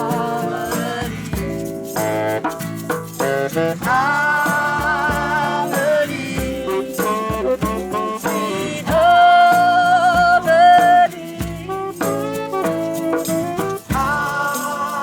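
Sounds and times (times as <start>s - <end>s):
shaken rattle: 0.0s - 15.0s.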